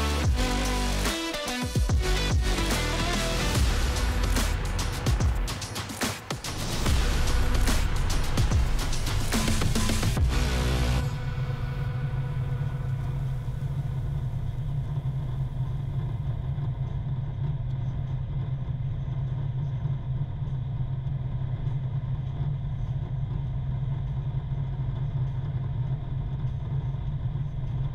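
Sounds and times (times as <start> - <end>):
vehicle engine and tyres droning: 0.0 - 27.9.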